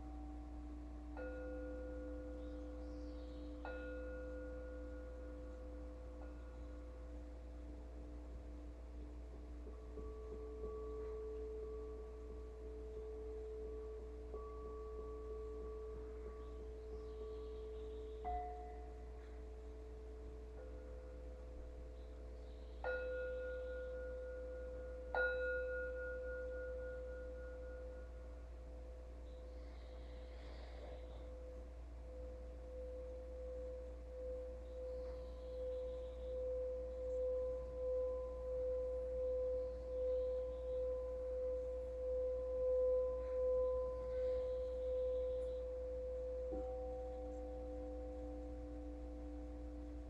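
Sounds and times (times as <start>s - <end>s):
low steady hum: 0.0s - 50.0s
singing bowl ringing: 0.0s - 50.0s.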